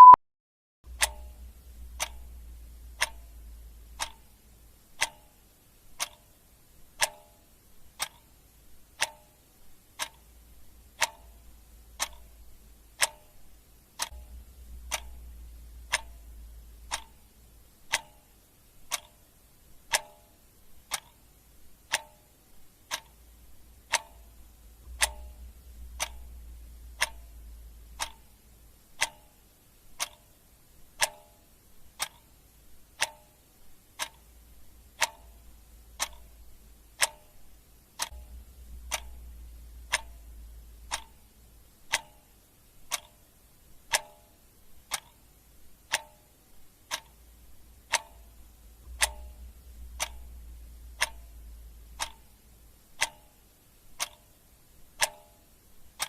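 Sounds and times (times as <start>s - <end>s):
clock ticking: 0.9s - 56.0s.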